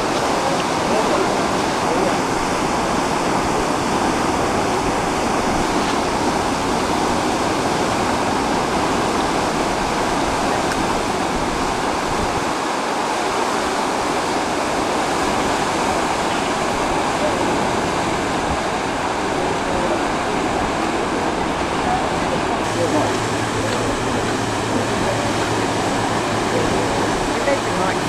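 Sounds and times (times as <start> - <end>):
river rushing: 0.0 - 28.0.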